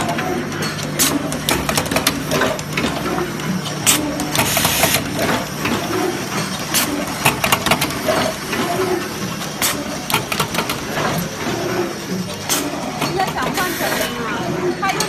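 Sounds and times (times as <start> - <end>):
sharp mechanical clicks and knocks: 0.0 - 14.2
machine mechanical hum: 0.0 - 15.0.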